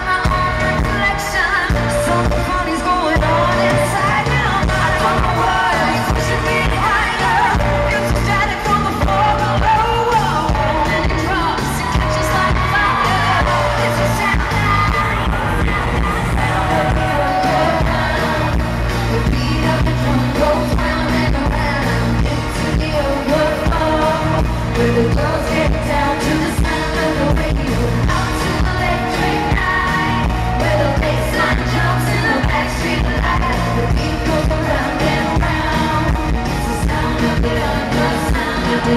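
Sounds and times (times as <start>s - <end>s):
female group singing pop: 0.0s - 38.9s
pop band track with pulsing beat: 0.0s - 38.9s.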